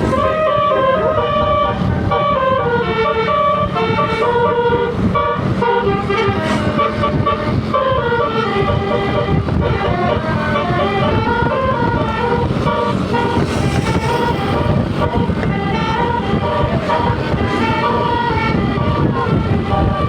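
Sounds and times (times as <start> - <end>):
bus horn playing a tune: 0.0 - 20.0.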